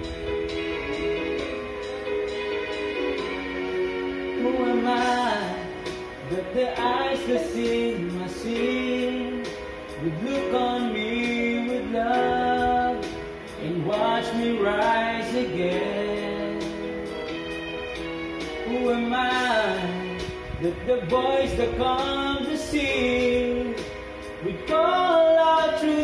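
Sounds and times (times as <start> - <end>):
person singing melody: 0.0 - 26.0
slow ballad karaoke music: 0.0 - 26.0.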